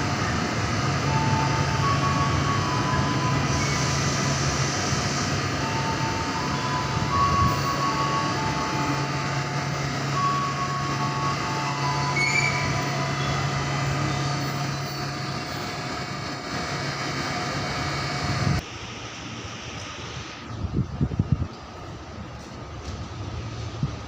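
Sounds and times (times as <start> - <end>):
train rail noise: 0.0 - 24.0.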